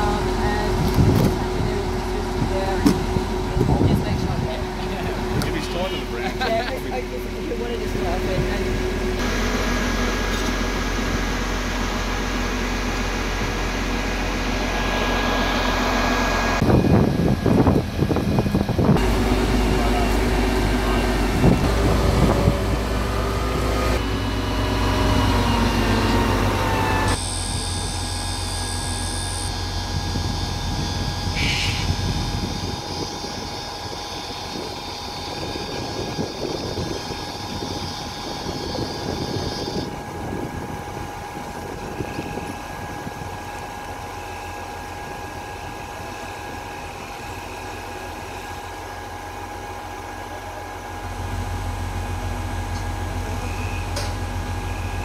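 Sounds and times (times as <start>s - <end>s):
crane engine running: 0.0s - 55.0s.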